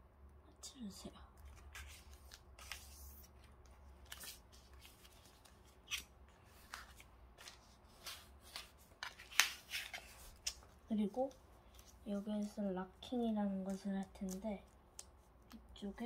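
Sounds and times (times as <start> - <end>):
paper rustling and folding: 1.4 - 15.6.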